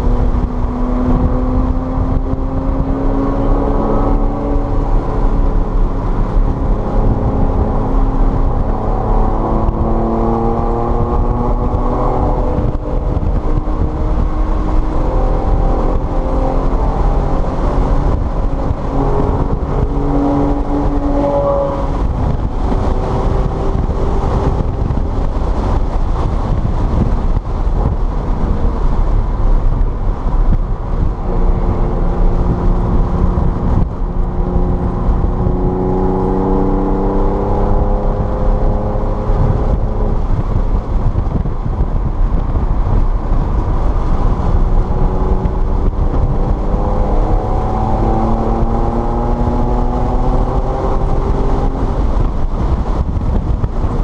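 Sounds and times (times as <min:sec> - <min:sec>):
car engine accelerating: 0:00.0 - 0:54.0
tyre road and wind noise: 0:00.0 - 0:54.0.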